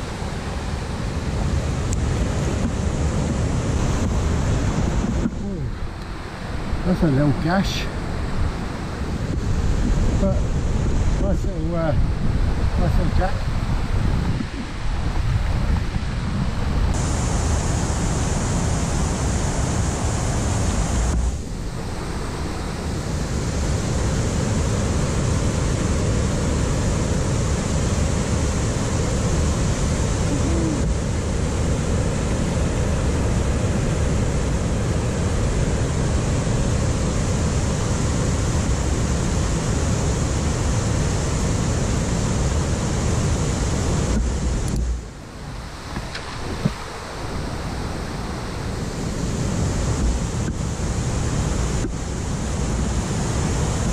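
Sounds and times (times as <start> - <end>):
water flowing over weir: 0.0 - 53.9
wind buffeting microphone: 0.0 - 53.9.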